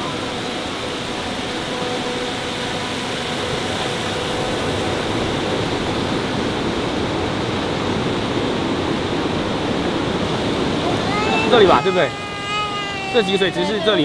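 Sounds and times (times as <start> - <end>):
creek flowing fast over rocks: 0.0 - 14.0.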